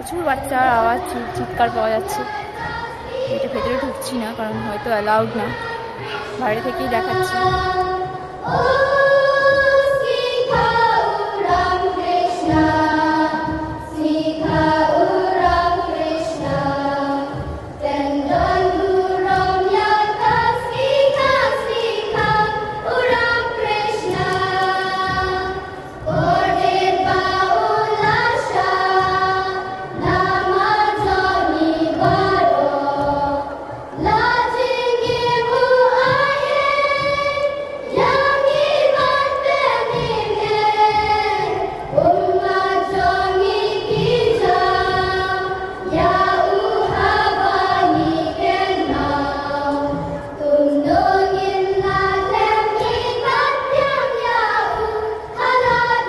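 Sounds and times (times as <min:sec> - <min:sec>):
children singing in unison: 0:00.0 - 0:56.0.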